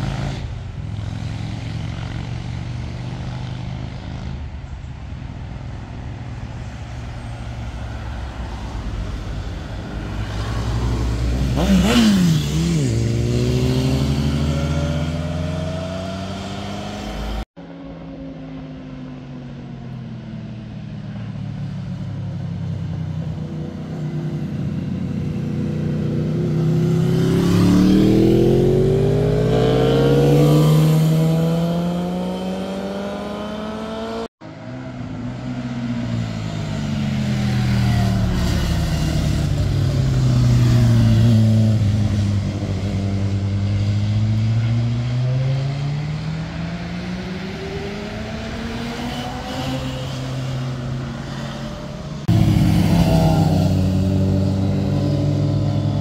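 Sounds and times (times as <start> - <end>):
motorcycle engines passing: 0.0 - 19.3, 20.1 - 56.0.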